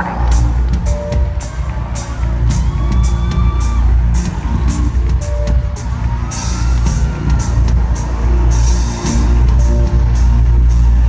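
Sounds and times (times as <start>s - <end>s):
booming bass and drums: 0.0s - 11.0s
live rock band playing: 0.0s - 11.0s.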